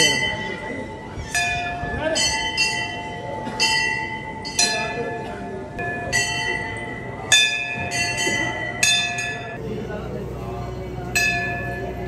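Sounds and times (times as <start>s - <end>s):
temple bells struck by hand: 0.0s - 9.6s, 11.1s - 12.0s.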